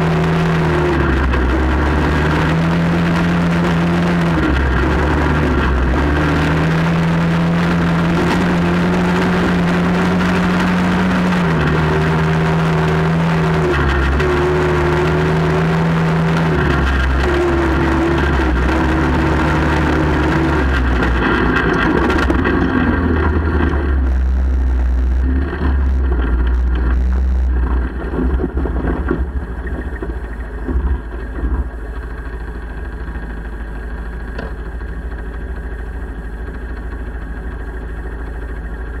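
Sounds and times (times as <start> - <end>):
quad bike engine running: 0.0 - 39.0.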